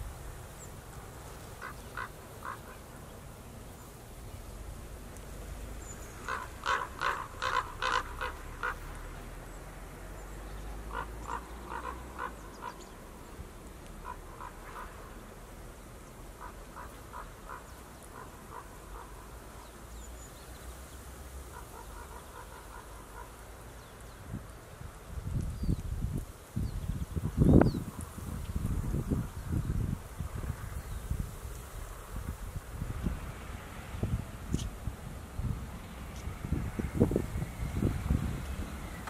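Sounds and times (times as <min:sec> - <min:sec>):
low wind rumble: 0:00.0 - 0:39.0.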